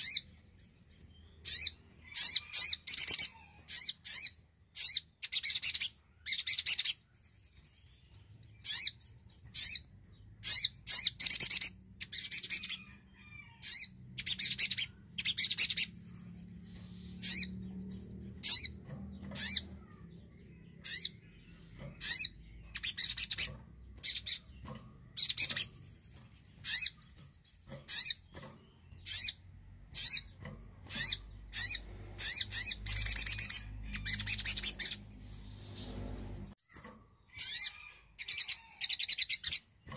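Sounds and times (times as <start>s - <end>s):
songbird chattering calls: 1.2s - 28.3s, 29.0s - 29.4s, 30.0s - 39.7s.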